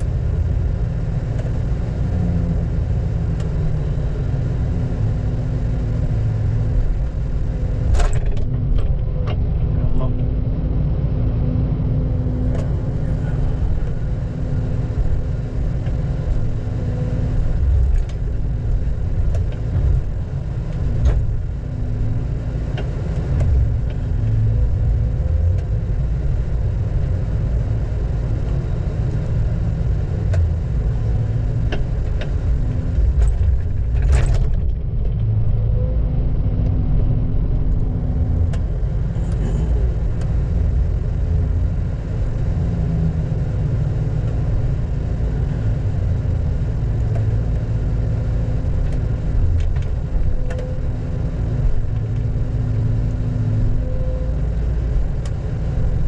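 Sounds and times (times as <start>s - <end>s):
heavy engine running low: 0.0s - 56.0s.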